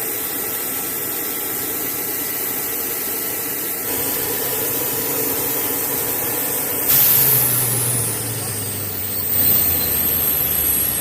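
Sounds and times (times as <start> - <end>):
helicopter turbine engines running: 0.0 - 11.0.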